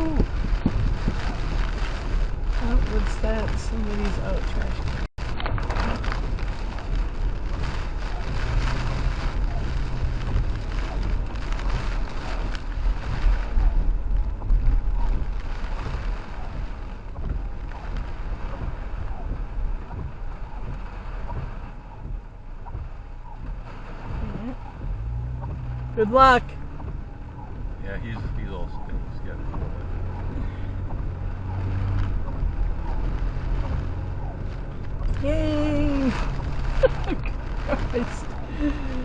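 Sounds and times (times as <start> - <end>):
low truck rumble: 0.0 - 39.0
rain on vehicle: 0.0 - 39.0
road noise inside truck cab: 0.0 - 39.0.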